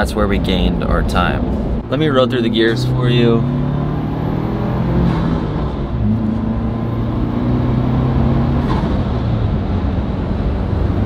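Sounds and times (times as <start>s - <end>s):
turbocharged car engine accelerating: 0.5s - 11.0s.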